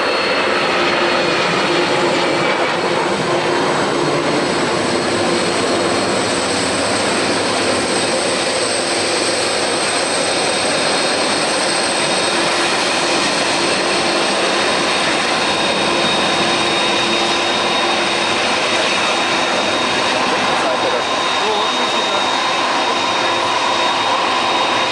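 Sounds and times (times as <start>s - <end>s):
high jet whine: 0.0s - 24.9s
jet engines roaring: 0.0s - 24.9s.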